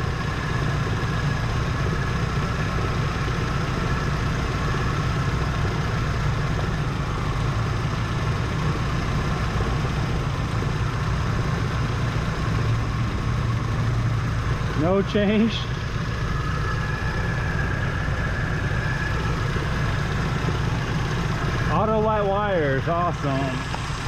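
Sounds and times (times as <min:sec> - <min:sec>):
truck engine idling with misfire: 0:00.0 - 0:24.0.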